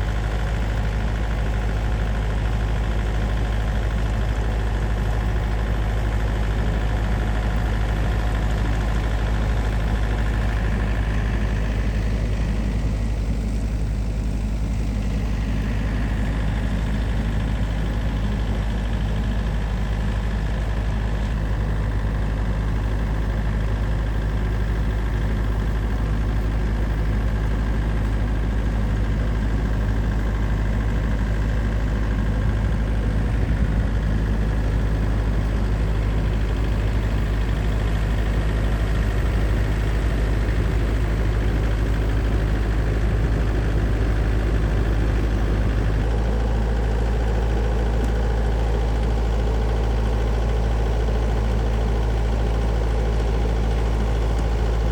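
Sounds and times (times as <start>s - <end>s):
snowblower engine running: 0.0s - 54.9s.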